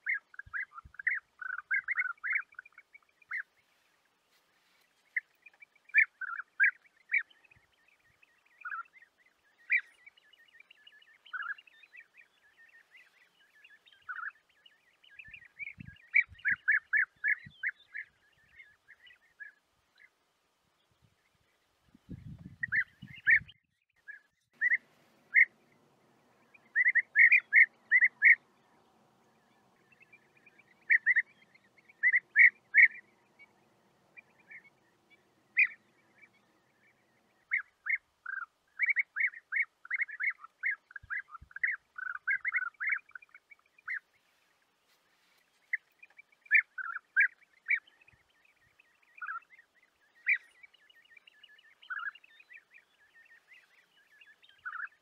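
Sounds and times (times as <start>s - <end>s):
birds calling: 0.0s - 20.2s, 20.8s - 55.0s.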